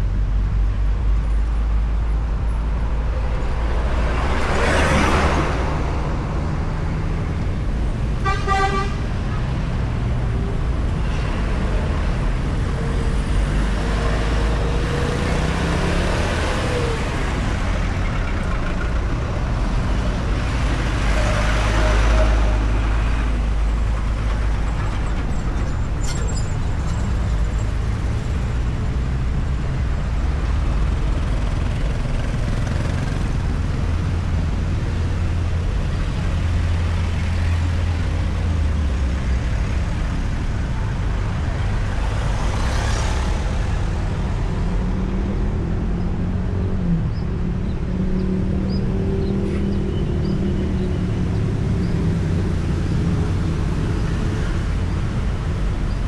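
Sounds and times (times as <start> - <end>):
highway traffic rumble: 0.0 - 56.0.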